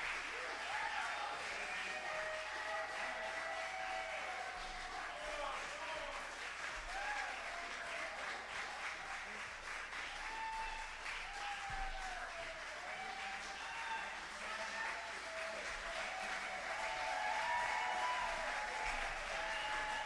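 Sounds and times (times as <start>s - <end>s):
audience applauding: 0.0s - 20.0s
cheering voices: 0.0s - 20.0s.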